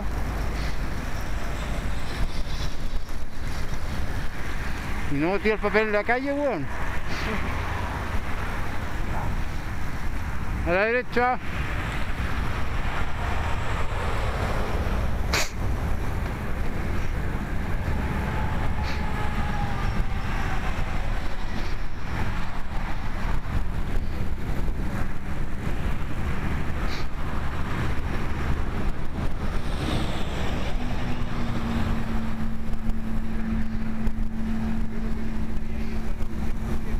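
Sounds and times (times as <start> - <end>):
bicycle road noise: 0.0 - 36.9
wind rushing over microphone: 0.0 - 36.9.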